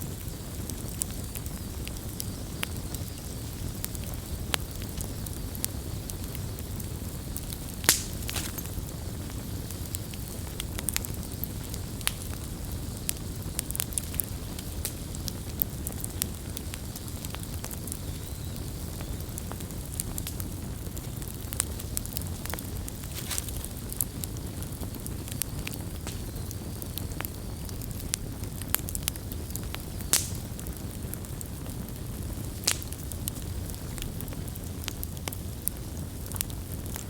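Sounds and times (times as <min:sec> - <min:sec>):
campfire low rumble: 0:00.0 - 0:37.0
wood crackling and popping: 0:00.0 - 0:37.0.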